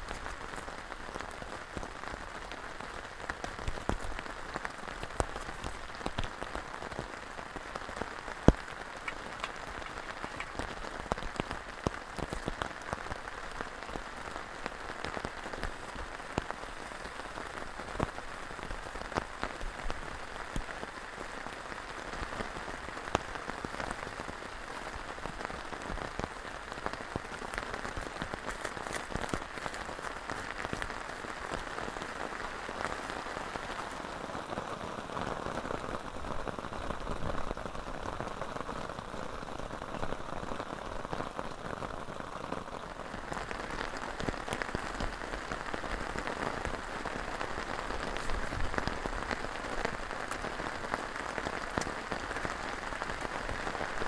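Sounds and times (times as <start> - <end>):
heavy rain on tent tarp: 0.0 - 54.0.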